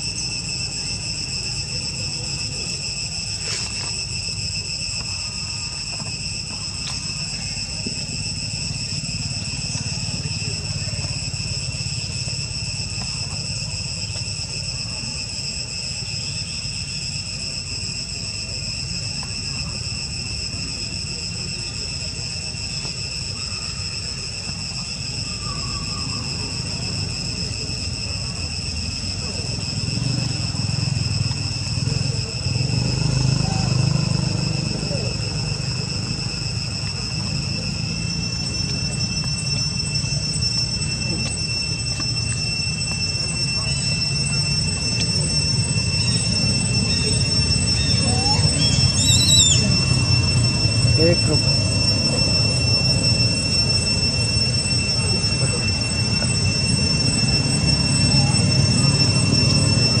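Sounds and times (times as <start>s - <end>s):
high-pitched insect chorus: 0.0s - 60.0s.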